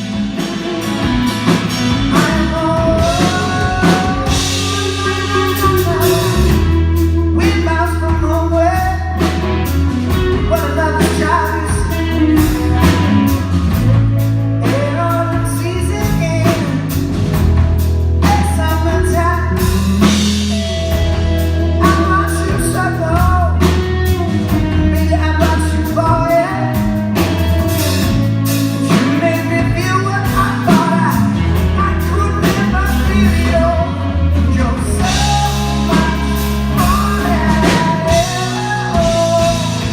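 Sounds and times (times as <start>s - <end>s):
lead vocal singing: 0.0s - 17.4s, 18.2s - 39.9s
bass guitar: 0.0s - 39.9s
drum kit: 0.0s - 39.9s
electric guitar: 0.0s - 39.9s.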